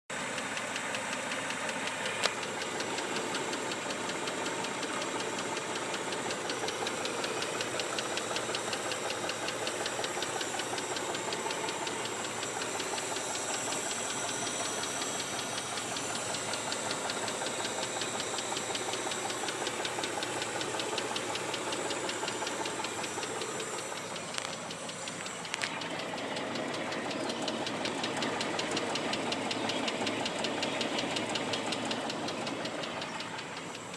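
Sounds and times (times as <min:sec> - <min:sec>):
car engine running: 0:00.0 - 0:33.9
fast ticking knock: 0:00.2 - 0:33.9.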